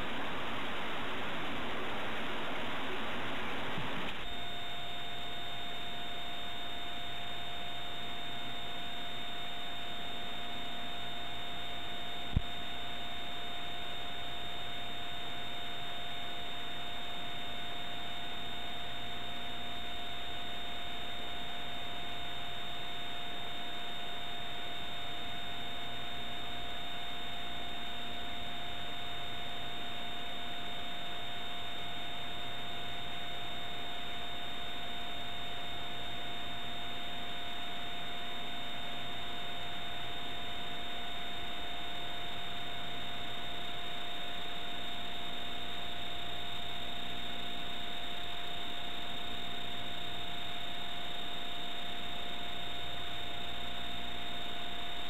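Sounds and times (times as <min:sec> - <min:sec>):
faint low hum: 0:00.0 - 0:55.0
two constant tones: 0:00.0 - 0:55.0.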